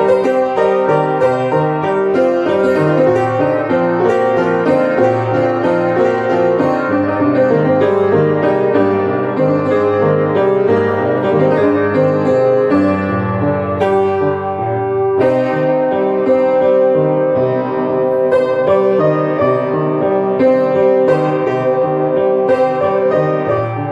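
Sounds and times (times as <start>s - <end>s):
electronic organ melody: 0.0s - 23.9s.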